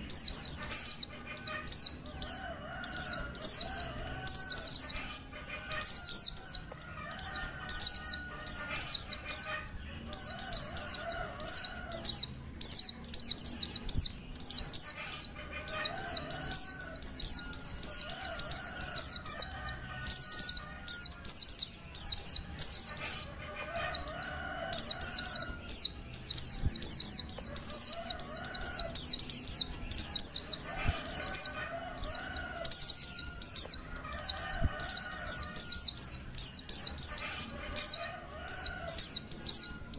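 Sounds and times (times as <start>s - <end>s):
faint low warbling calls: 0.0s - 39.9s.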